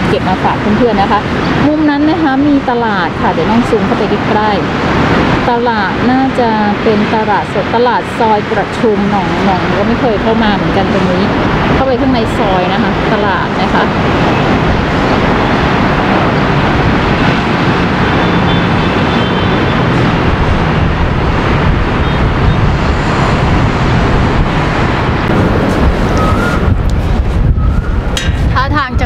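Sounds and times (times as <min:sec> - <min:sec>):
wind blowing on microphone: 0:00.0 - 0:29.0.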